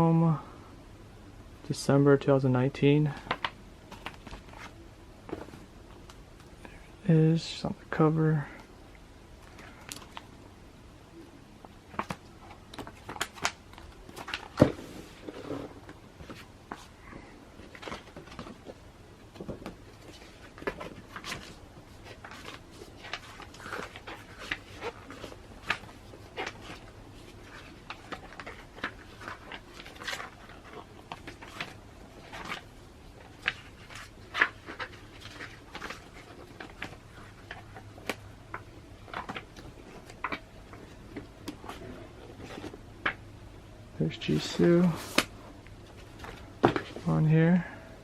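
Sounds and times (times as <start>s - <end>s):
magazine pages rustling: 3.1s - 6.6s, 9.4s - 10.3s, 11.6s - 43.2s, 44.2s - 47.6s.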